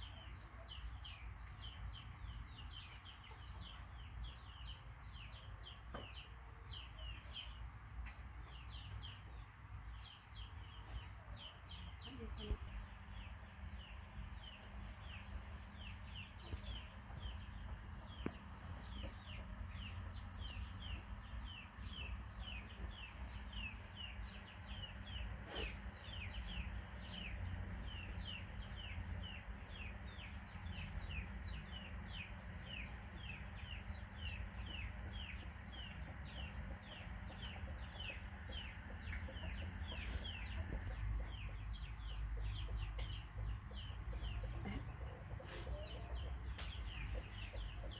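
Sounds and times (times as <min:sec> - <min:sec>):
bird peeping: 0:05.2 - 0:47.9.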